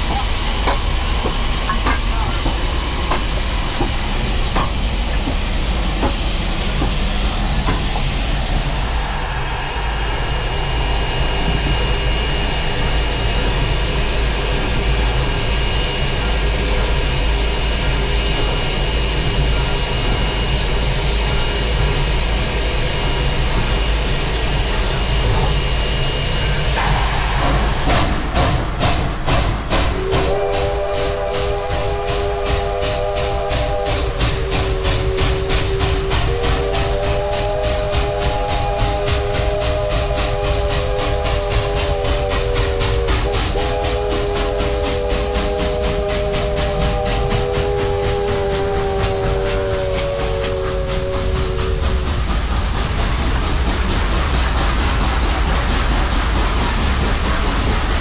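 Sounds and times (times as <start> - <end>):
steam hissing: 0.0 - 58.0
steam locomotive chuffing: 0.0 - 58.0.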